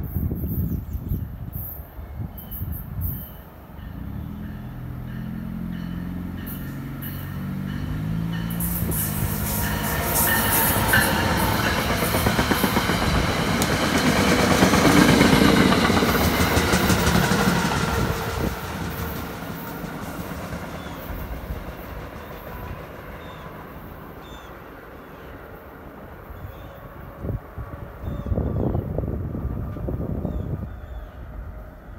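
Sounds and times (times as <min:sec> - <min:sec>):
train passing with low drone: 0:00.0 - 0:31.9.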